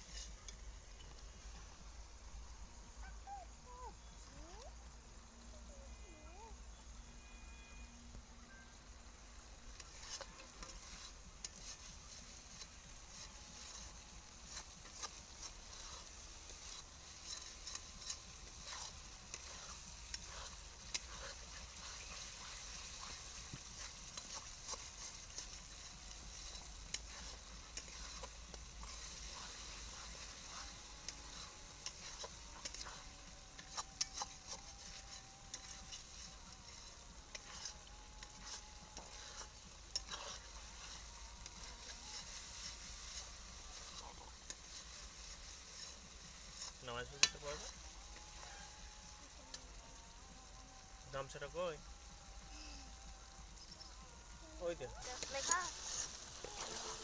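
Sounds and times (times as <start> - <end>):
spatula stirring and scraping: 0.0 - 2.0, 9.0 - 52.4, 55.0 - 57.0
spice paste sizzling in pan: 0.0 - 57.0.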